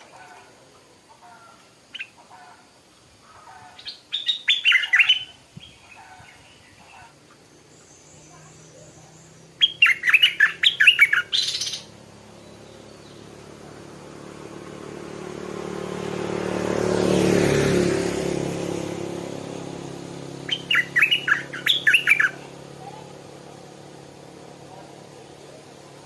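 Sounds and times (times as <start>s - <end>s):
bird singing choppy phrases: 0.0s - 16.9s, 19.4s - 26.0s
vehicle passing: 0.0s - 26.0s.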